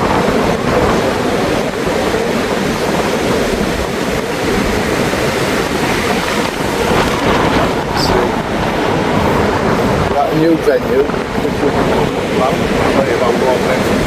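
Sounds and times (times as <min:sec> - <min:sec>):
sea surf washing in: 0:00.0 - 0:14.0
wind rumbling on microphone: 0:00.0 - 0:14.0.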